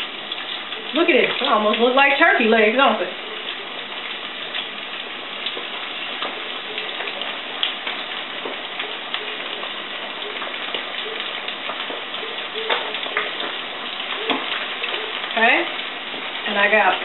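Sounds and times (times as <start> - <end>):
chicken deep-frying in oil: 0.0 - 17.0
oil crackling and popping: 0.0 - 17.0.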